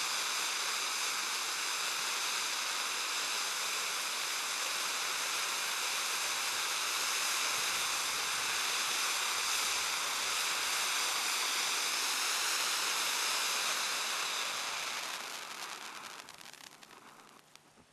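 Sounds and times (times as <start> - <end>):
firework fountain hissing: 0.0 - 17.9.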